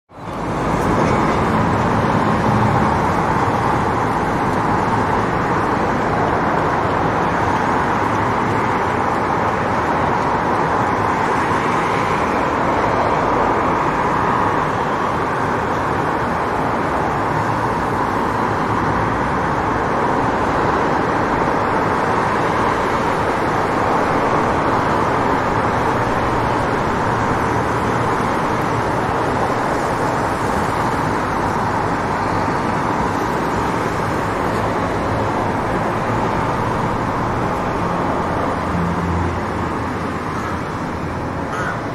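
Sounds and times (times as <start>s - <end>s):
passing cars: 0.1s - 41.9s.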